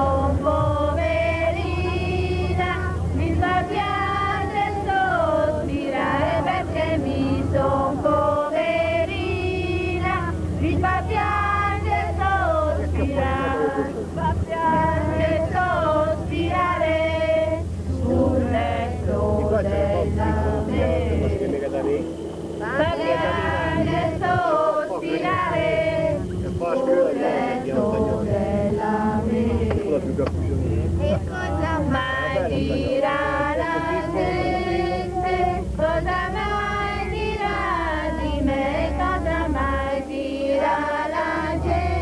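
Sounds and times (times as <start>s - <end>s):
bus engine drone: 0.0s - 42.0s
group singing in unison: 0.0s - 42.0s.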